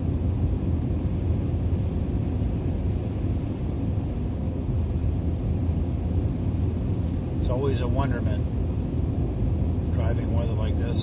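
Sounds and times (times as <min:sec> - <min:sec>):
car engine: 0:00.0 - 0:11.0
road and tyre rumble: 0:00.0 - 0:11.0.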